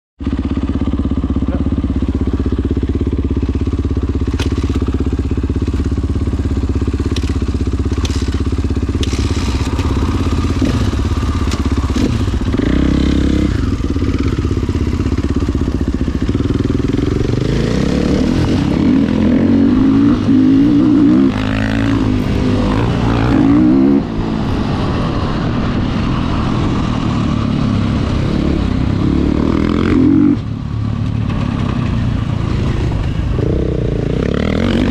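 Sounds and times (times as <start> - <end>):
dirt bike engine idling and revving: 0.2 - 34.9.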